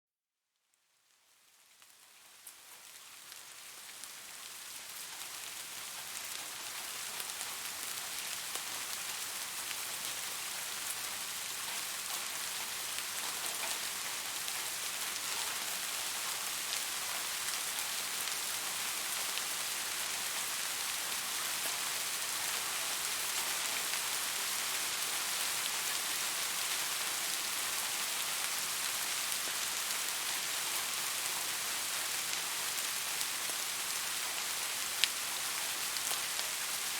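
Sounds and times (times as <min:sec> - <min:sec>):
steady rain falling: 0:00.6 - 0:36.9.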